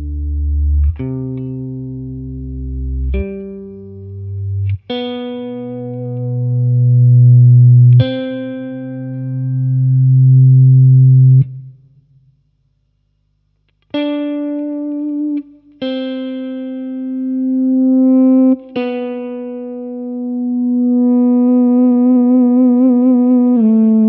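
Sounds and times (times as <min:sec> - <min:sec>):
electric guitar with sustained feedback: 0:00.0 - 0:11.8, 0:14.0 - 0:24.0.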